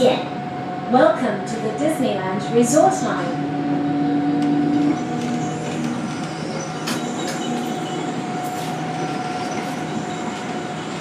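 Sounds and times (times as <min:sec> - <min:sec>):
train running noise with whine: 0:00.0 - 0:11.0.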